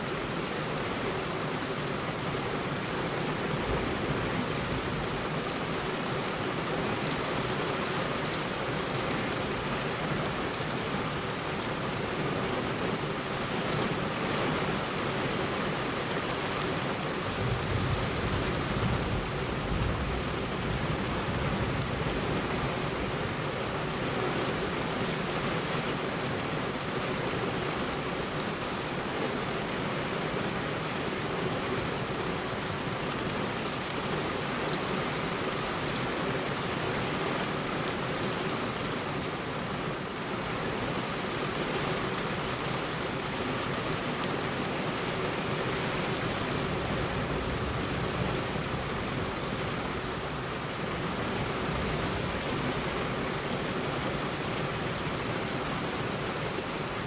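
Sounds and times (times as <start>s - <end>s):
heavy rain on a road: 0.0s - 57.0s.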